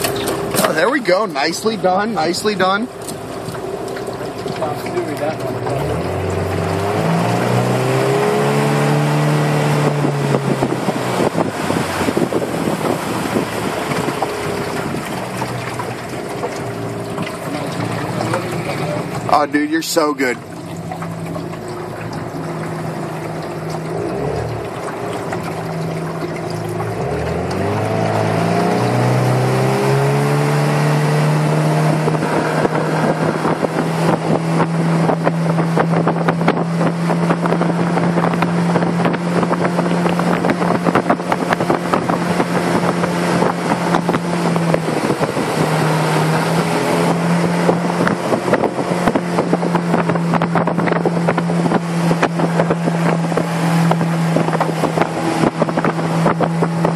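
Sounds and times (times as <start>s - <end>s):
outboard motor running: 0.0s - 56.9s.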